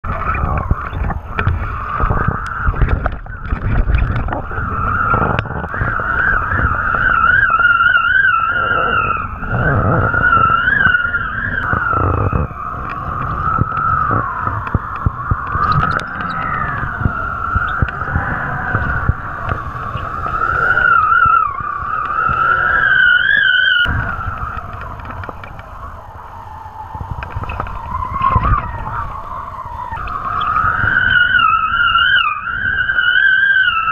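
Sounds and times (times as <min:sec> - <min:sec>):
wind buffeting camera: 0:00.0 - 0:33.9
high wavering whistle: 0:00.1 - 0:33.9.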